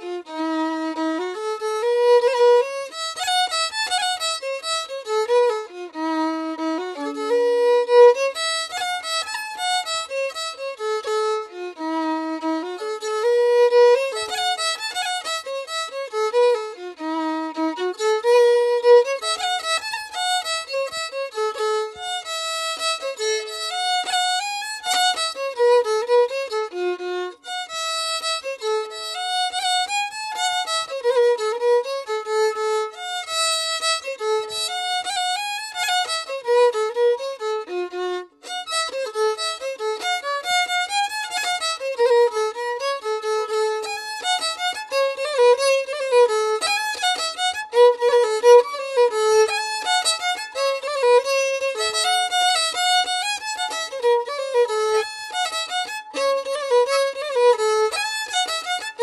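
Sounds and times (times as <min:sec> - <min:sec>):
fiddle melody: 0:00.0 - 0:59.0.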